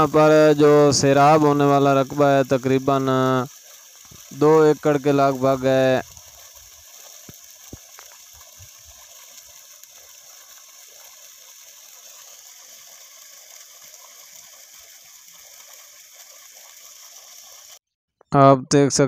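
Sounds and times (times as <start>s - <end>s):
water gushing from pipe: 0.0s - 17.8s.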